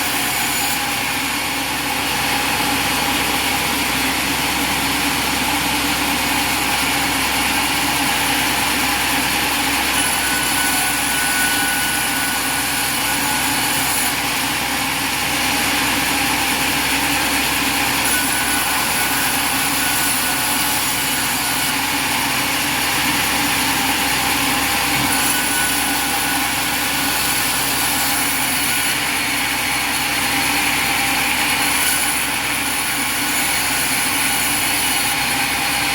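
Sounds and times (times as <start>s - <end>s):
sawmill engine running: 0.0s - 13.5s, 14.1s - 31.6s.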